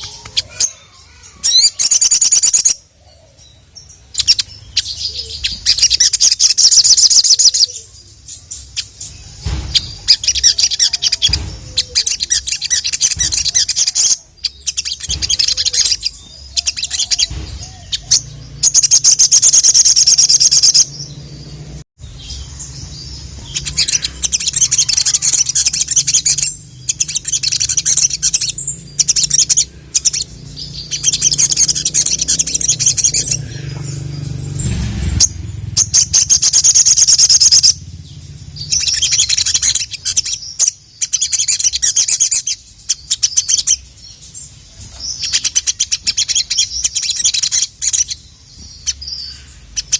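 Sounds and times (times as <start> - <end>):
bird chattering song: 0.0 - 49.9.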